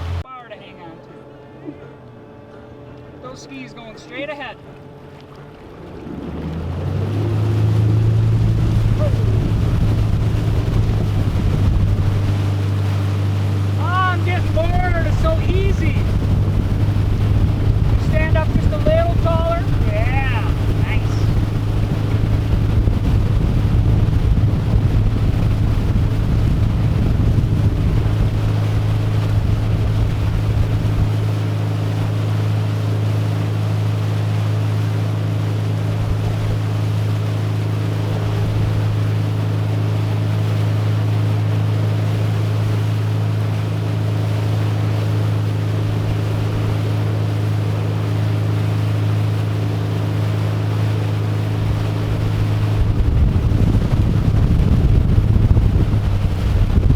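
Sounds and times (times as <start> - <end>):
motorboat engine droning: 0.0 - 56.9
wind buffeting microphone: 5.3 - 56.9.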